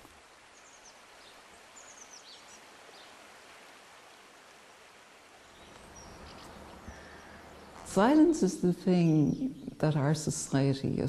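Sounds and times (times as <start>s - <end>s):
faint hiss: 0.0s - 11.0s.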